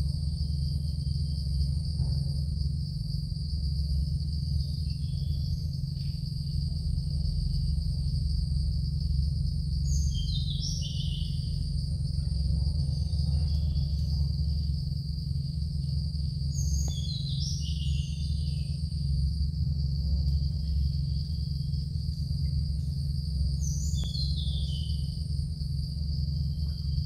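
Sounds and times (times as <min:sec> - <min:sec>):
high insect drone: 0:00.0 - 0:27.0
low rumble: 0:00.0 - 0:27.0.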